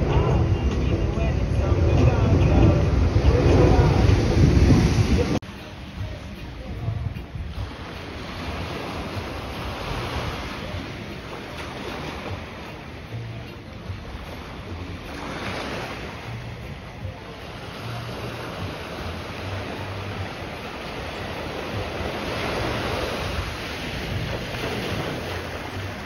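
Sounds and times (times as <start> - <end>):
small waves washing onto beach: 0.0 - 26.0
wind rumbling on microphone: 0.0 - 26.0.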